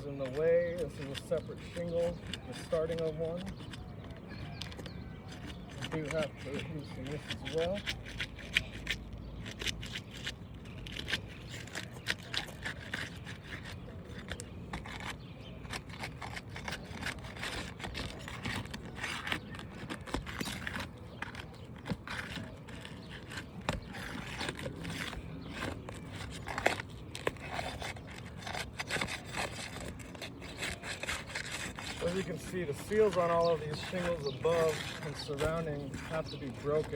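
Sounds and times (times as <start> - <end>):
pry bar clicking and scraping: 0.0 - 36.9.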